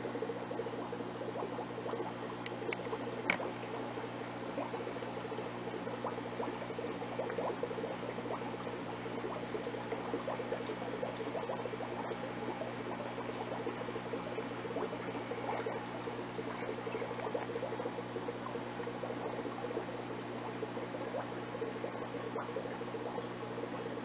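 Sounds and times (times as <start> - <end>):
aquarium pump humming: 0.0 - 24.0
bubbling and trickling water: 0.0 - 24.0.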